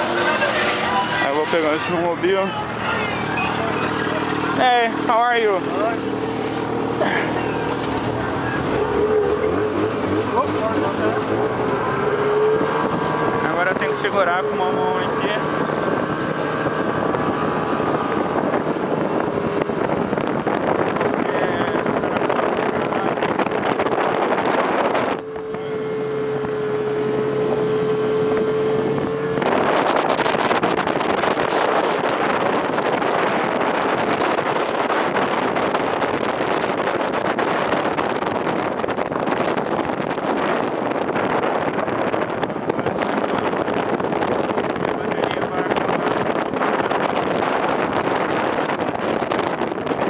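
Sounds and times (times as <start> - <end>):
snowmobile engine running: 0.0 - 50.0
wind rush on microphone: 0.0 - 50.0.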